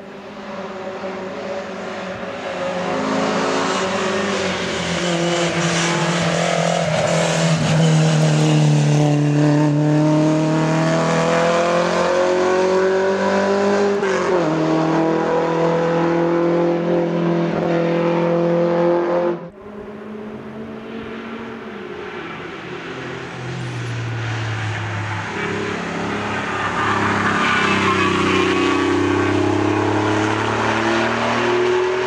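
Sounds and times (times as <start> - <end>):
sports car approaching: 0.0 - 32.0
car engine accelerating: 2.8 - 32.0.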